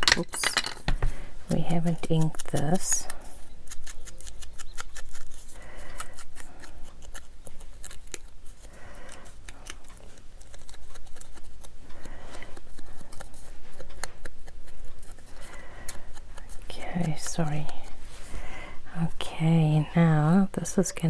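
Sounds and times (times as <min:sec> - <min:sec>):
scratchy rubbing on paper: 0:01.1 - 0:18.4.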